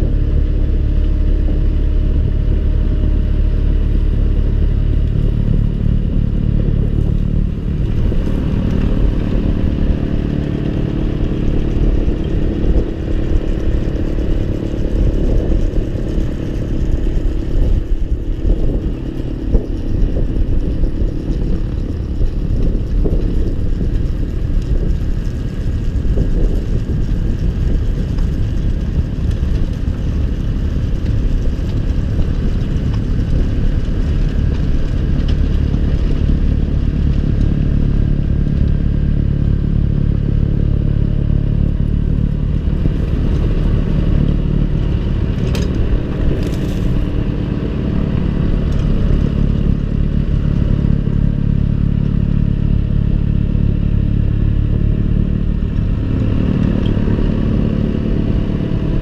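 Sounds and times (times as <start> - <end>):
snow blower working: 0.0 - 59.0
tractor diesel engine running: 0.0 - 59.0.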